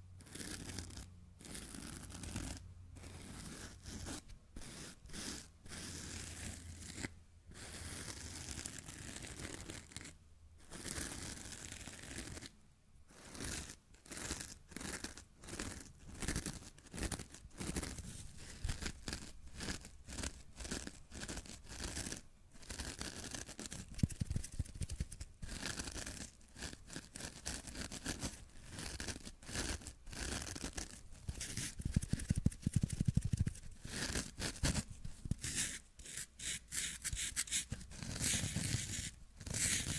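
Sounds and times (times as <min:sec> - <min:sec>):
fingernails scratching foam sponge: 0:00.2 - 0:10.1, 0:10.7 - 0:12.5, 0:13.1 - 0:39.9
fingernails scratching felt: 0:00.2 - 0:12.5, 0:13.1 - 0:39.9.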